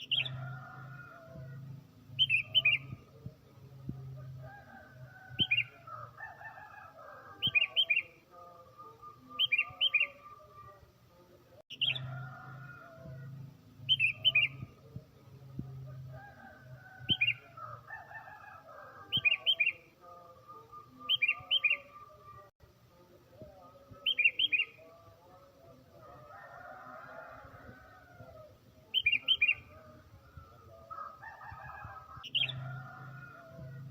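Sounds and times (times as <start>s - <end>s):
bulbul singing: 0.0s - 10.8s, 11.7s - 22.5s, 23.3s - 33.9s.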